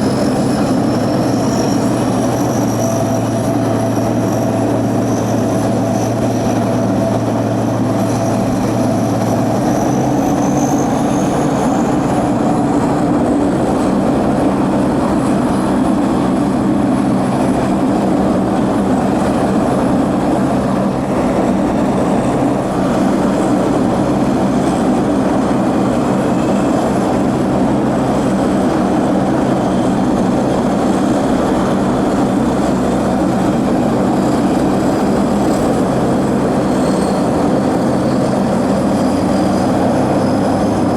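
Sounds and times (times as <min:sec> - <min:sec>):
aircraft engines droning: 0:00.0 - 0:40.9.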